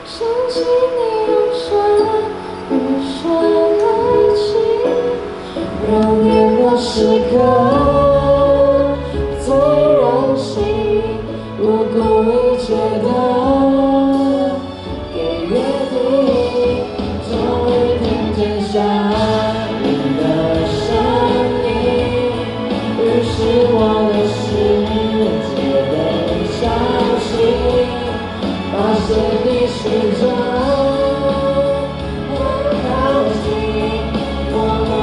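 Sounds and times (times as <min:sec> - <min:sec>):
karaoke singing: 0:00.0 - 0:35.0
pop ballad backing track: 0:00.0 - 0:35.0.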